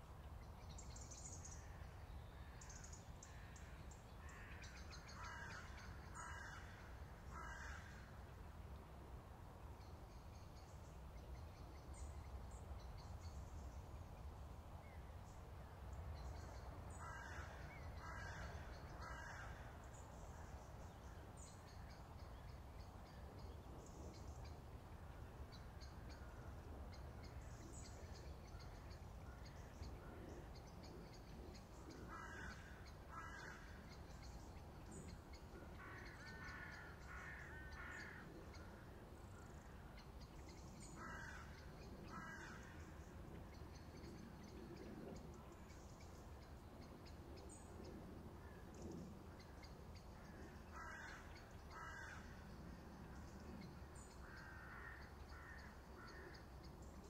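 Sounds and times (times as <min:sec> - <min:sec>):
faint bird calls: 0:00.1 - 0:08.8, 0:09.8 - 0:57.0.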